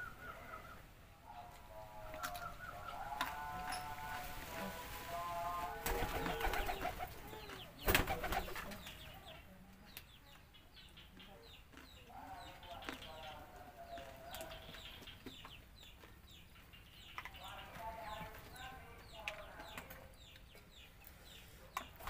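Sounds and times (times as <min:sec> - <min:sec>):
small birds chirping: 0:00.0 - 0:04.2, 0:05.5 - 0:22.0
chickens clucking: 0:00.0 - 0:22.0.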